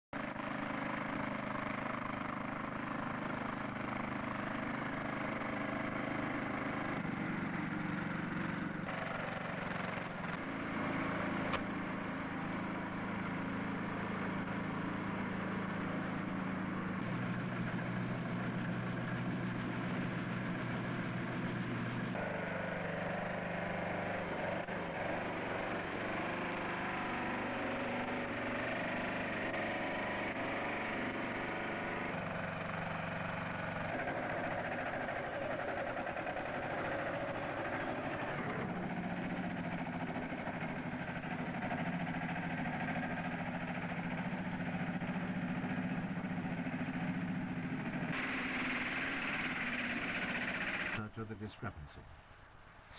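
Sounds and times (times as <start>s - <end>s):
tracked tractor engine running: 0.1s - 52.9s.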